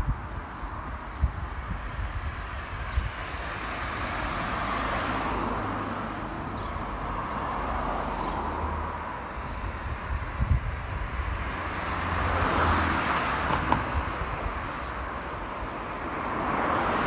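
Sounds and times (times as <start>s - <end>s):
car tyre noise passing: 1.6s - 17.0s.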